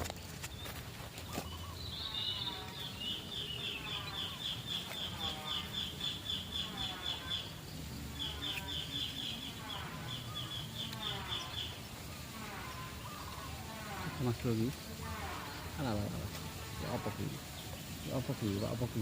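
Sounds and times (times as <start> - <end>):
low falling bird calls: 0.0 - 19.0.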